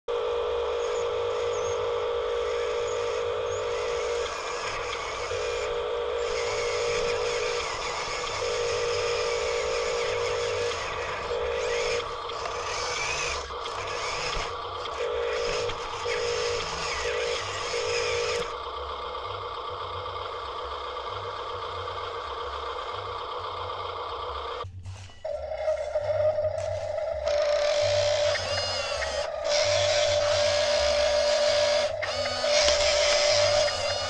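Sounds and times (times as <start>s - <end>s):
toy truck electric motor whining: 0.2s - 34.0s.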